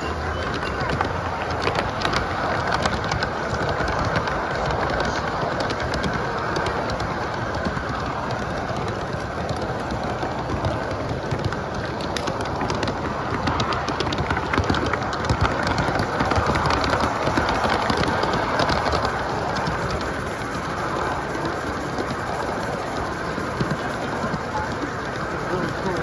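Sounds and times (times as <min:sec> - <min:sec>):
steam hissing: 0:00.0 - 0:26.0
wheels clicking on rails: 0:00.0 - 0:26.0.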